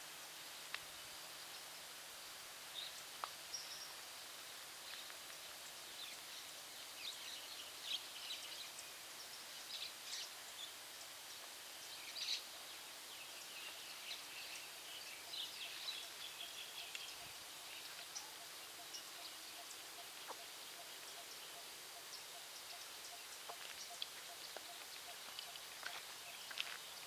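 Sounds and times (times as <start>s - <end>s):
steady background hiss: 0.0s - 27.0s
birds chirping: 2.7s - 27.0s.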